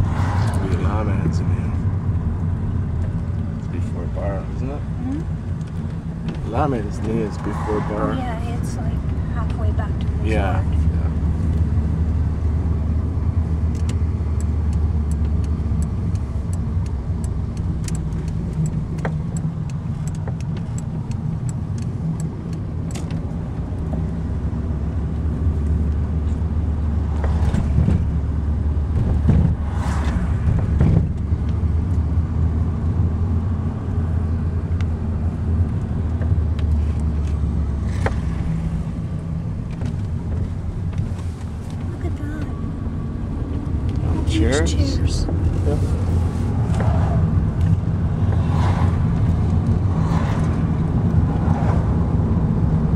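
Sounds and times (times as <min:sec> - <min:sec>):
car engine and tyre drone: 0:00.0 - 0:52.9.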